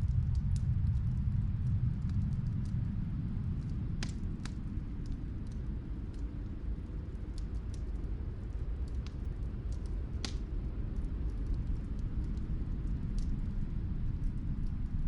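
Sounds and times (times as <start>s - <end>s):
snowstorm wind rumble: 0.0s - 15.0s
wood fire crackling: 0.1s - 15.0s.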